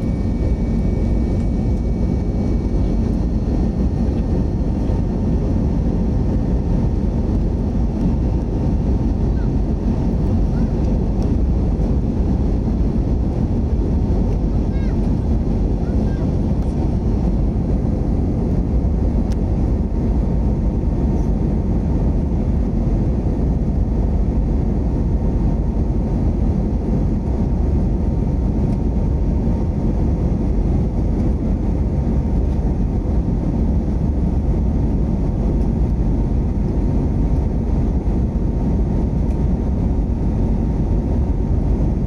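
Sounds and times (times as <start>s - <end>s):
airliner cabin engine roar: 0.0s - 42.0s.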